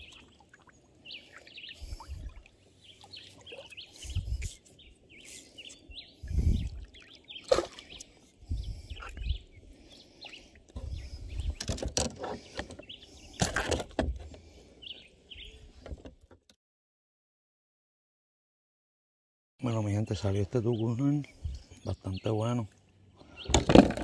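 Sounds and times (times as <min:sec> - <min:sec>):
birds chirping: 0:00.0 - 0:16.1, 0:19.6 - 0:24.0.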